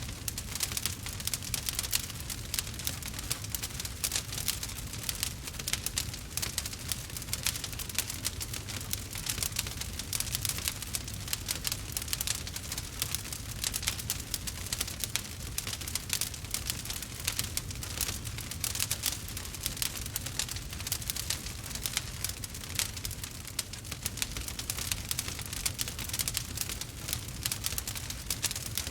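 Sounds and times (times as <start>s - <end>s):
wood fire crackling and popping: 0.0s - 28.9s.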